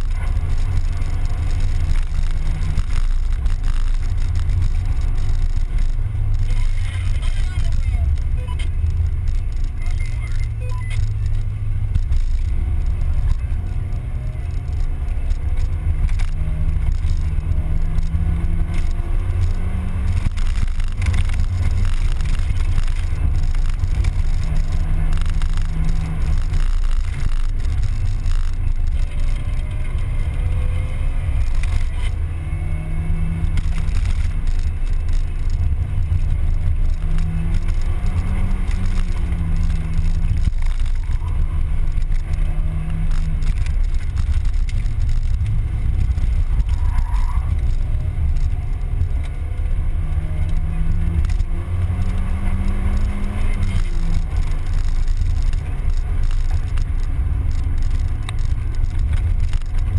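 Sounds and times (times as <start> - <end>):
car engine revving through gears: 0.0 - 59.9
wind and road noise: 0.0 - 59.9.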